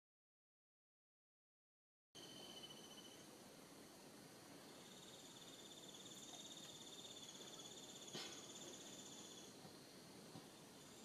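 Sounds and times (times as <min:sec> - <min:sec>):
insect trill: 0:02.2 - 0:11.0.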